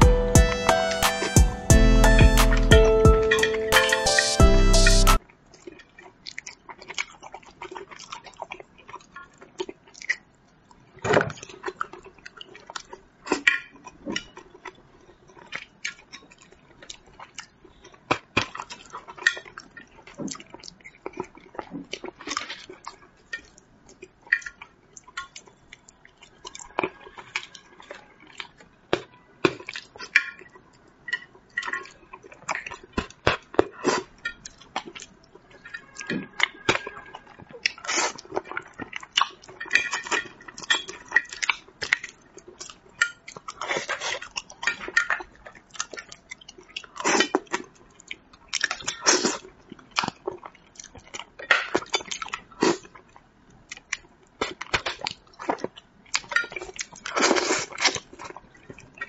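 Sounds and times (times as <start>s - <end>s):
wet chewing and lip smacks: 5.2s - 59.0s.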